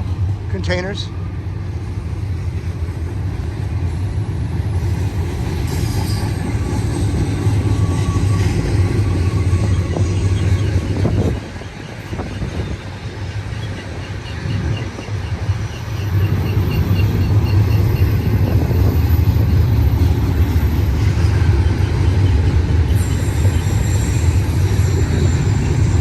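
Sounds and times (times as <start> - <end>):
freight train wheels rumbling on rail: 0.0 - 26.0.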